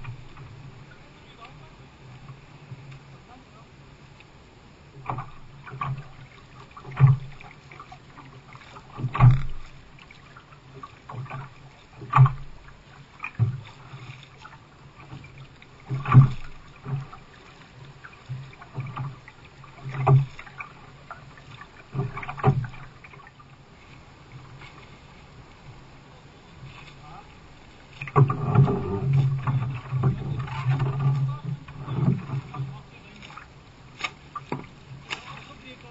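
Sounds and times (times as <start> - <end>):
paddle strokes splashing water: 0.0 - 35.9.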